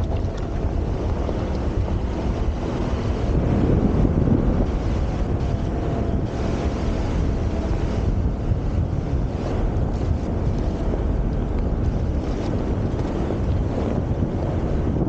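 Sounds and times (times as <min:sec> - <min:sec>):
vehicle rumble on dirt track: 0:00.0 - 0:15.0
wind buffeting microphone: 0:00.0 - 0:15.0.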